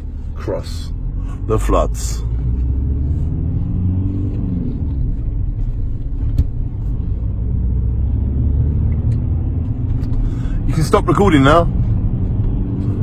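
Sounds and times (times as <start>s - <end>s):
engine and road noise in car: 0.0s - 13.0s.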